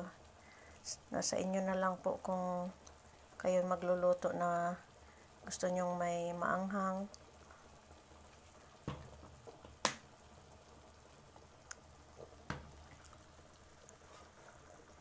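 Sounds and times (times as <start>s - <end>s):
sauce simmering in a frying pan: 0.0s - 15.0s.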